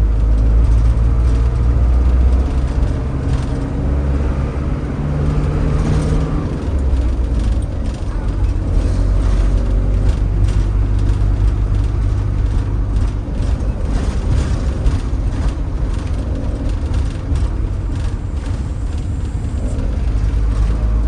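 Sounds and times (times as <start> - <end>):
engine and road rumble: 0.0 - 21.0
light rattles and knocks: 0.0 - 21.0.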